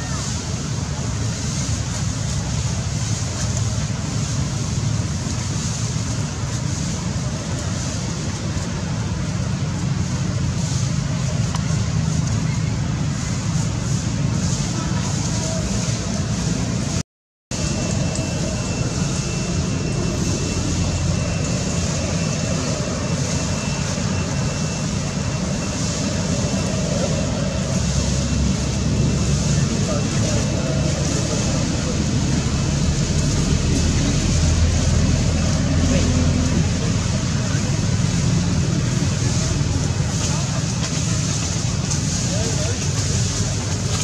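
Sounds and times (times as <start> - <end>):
low rumble: 0.0 - 44.0.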